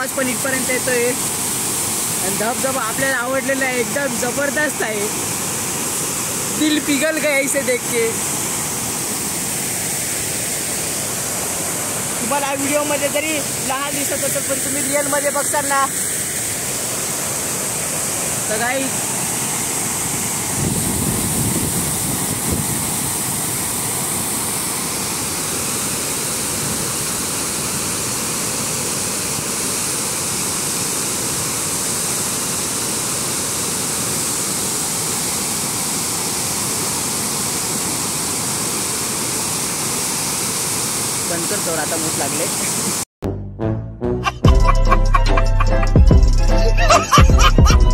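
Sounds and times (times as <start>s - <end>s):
waterfall rushing: 0.0s - 43.1s.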